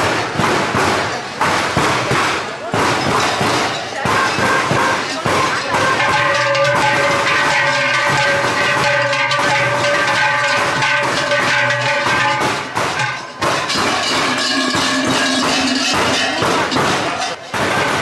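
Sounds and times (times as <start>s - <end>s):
large bells clanging: 2.9s - 18.0s.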